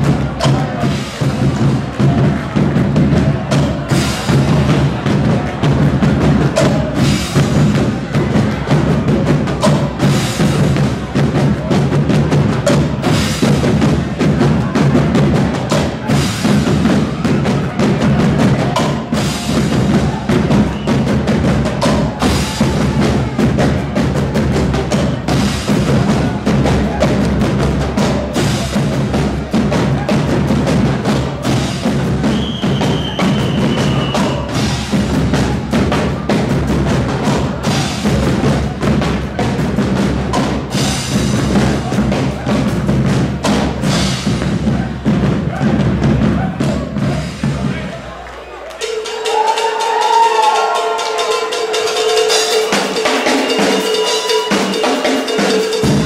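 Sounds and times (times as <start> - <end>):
carnival band playing: 0.0 - 56.0
heavy drumming: 0.0 - 56.0.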